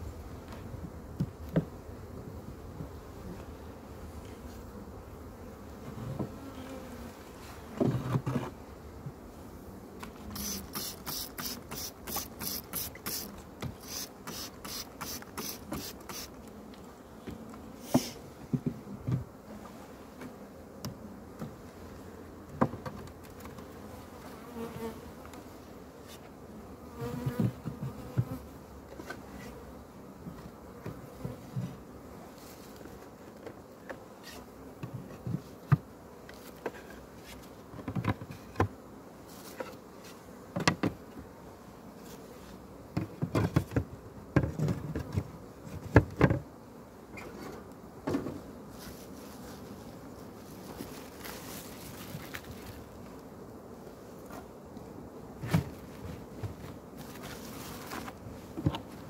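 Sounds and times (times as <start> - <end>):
honeybees buzzing: 8.5 - 59.0.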